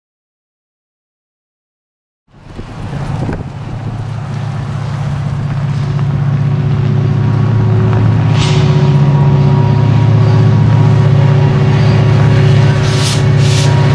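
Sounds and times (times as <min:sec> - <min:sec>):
road traffic passing: 0:02.3 - 0:13.9
train diesel engine drone: 0:02.3 - 0:13.9.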